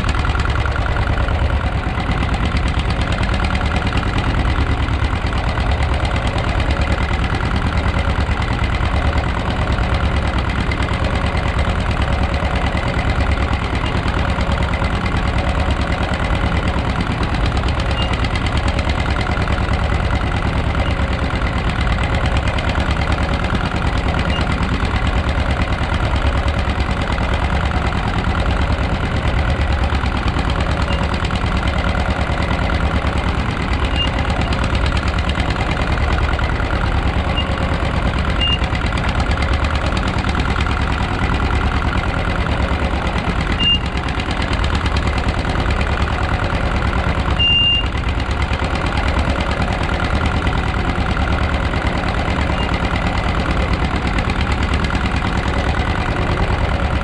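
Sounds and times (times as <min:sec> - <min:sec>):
boat engine knocking: 0:00.0 - 0:57.0
winch hauling line: 0:00.0 - 0:57.0.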